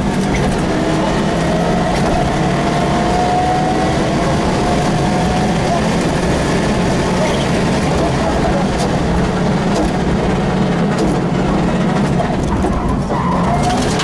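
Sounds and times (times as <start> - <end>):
rally car engine running hard: 0.0 - 14.0
road and drivetrain noise: 0.0 - 14.0.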